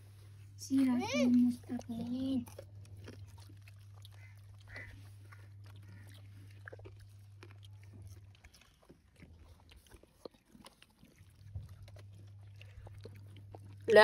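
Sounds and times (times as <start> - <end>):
people crunching chips: 1.4 - 14.0.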